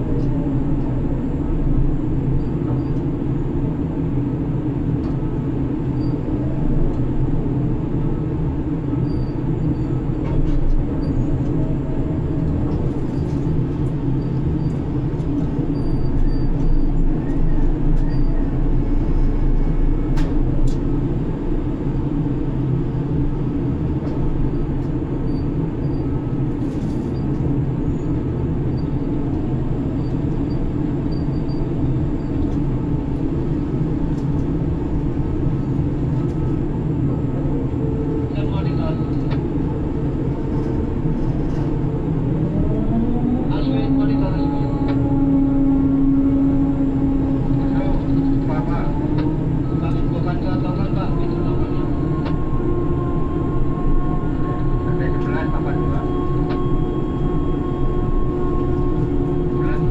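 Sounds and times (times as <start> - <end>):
crane machinery drone: 0.0 - 59.9.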